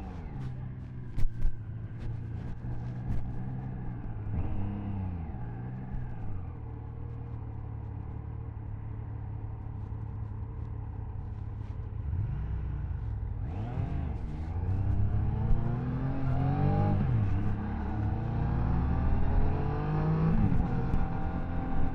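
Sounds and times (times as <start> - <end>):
motorcycle engine accelerating: 0.0 - 8.5, 11.9 - 21.9.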